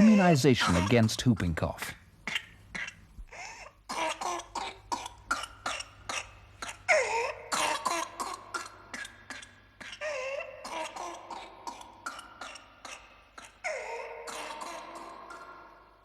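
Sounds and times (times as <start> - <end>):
child coughing fit: 0.0 - 1.5, 2.3 - 15.6.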